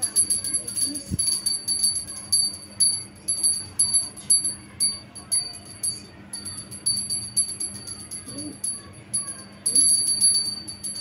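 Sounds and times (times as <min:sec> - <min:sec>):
handheld bell ringing: 0:00.0 - 0:11.0.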